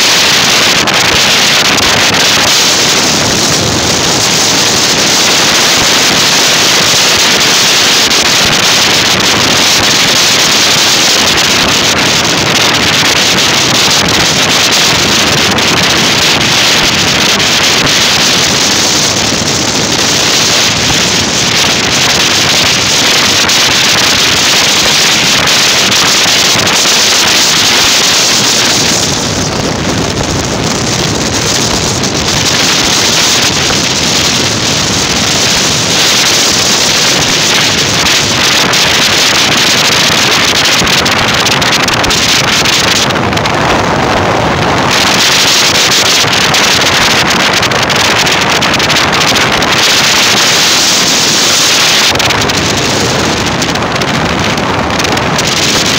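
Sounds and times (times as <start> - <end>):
road and vehicle noise: 0.0 - 55.9
wind rushing over microphone: 0.0 - 55.9.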